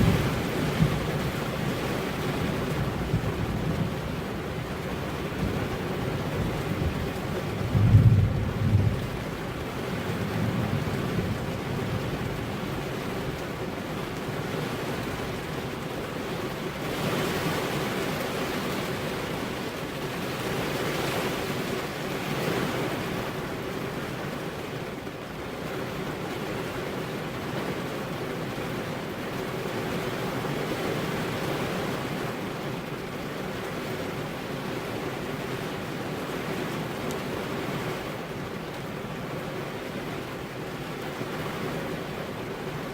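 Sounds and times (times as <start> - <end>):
steady rainfall: 0.0 - 42.9.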